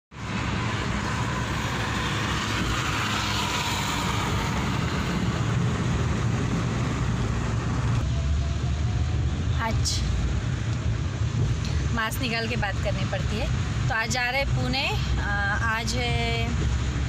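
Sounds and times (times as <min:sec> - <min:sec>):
car engine and tyre rumble: 0:00.1 - 0:17.0.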